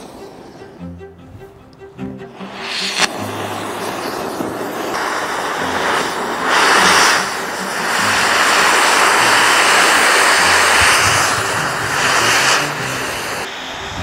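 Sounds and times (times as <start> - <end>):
cutting torch hissing roar: 2.0 - 14.0.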